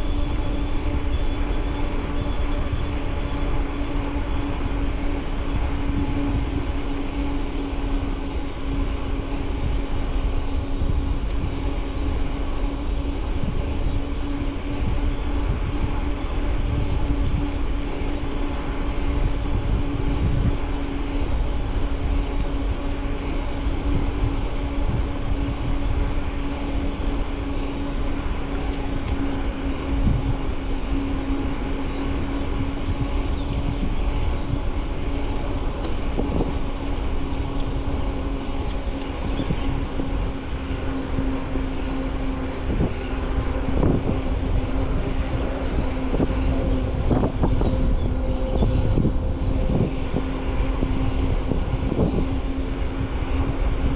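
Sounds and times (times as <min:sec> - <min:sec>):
bicycle tyre rolling: 0:00.0 - 0:53.9
steady hum: 0:00.0 - 0:53.9
wind on microphone: 0:00.0 - 0:53.9.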